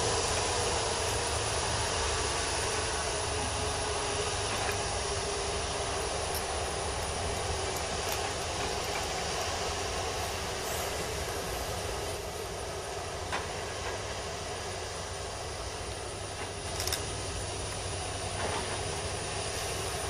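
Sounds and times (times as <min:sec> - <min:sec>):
distant jet engines rushing: 0:00.0 - 0:20.0.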